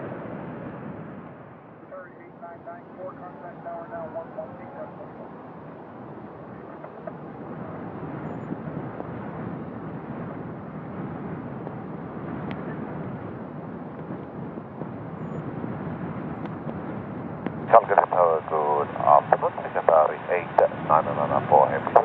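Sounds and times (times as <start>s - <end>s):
jet engines at low thrust: 0.0s - 22.0s.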